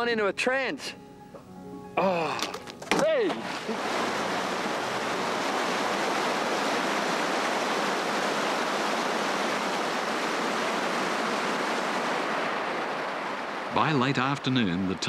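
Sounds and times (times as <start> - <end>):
water cascading off a reef: 2.3 - 15.0.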